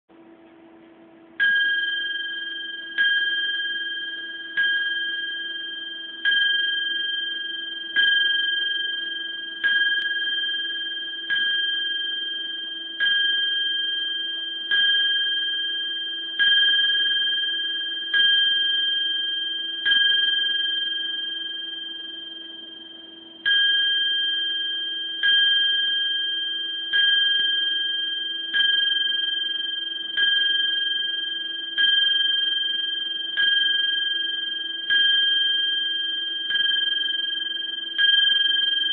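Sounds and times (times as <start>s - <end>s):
small hanging bell ringing: 1.4s - 38.9s.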